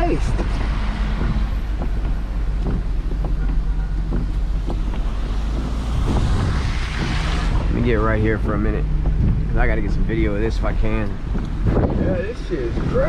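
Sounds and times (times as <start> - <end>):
car driving rumble: 0.0 - 13.0
wind buffeting microphone: 0.0 - 13.0.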